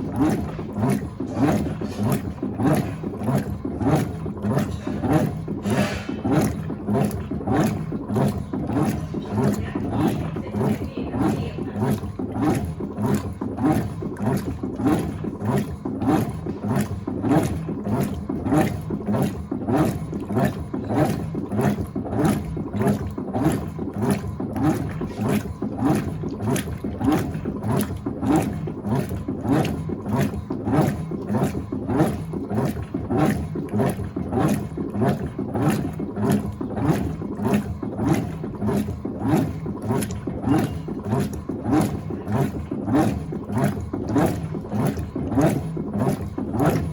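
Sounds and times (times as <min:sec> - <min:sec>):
washing machine agitating: 0:00.0 - 0:46.9.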